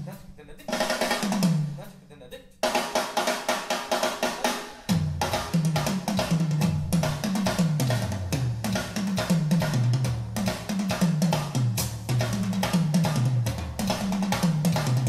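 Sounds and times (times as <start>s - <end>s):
drum kit groove: 0.0s - 15.0s.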